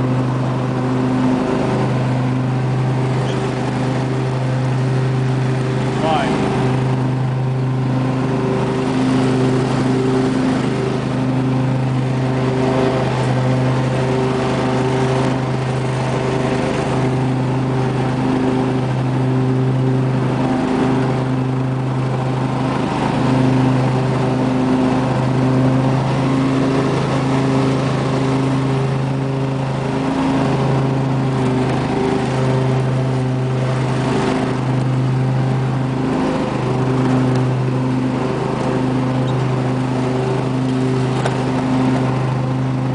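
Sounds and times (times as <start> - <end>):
lawn tractor engine running: 0.0 - 42.9.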